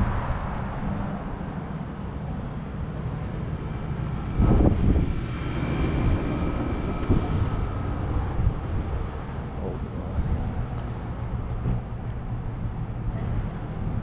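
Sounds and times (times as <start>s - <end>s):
faint engine whine: 0.0s - 14.0s
passing vehicle rumble: 0.0s - 14.0s.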